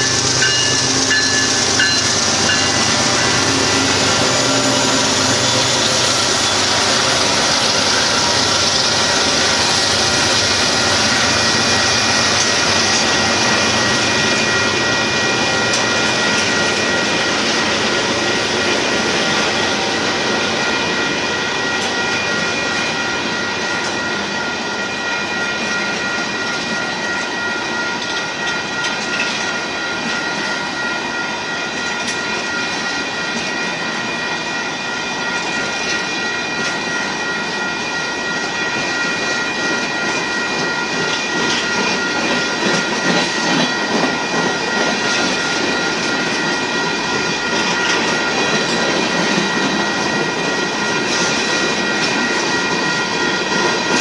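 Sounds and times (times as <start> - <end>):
high ringing tones: 0.0 - 54.0
train wheels clattering on rails: 0.0 - 54.0.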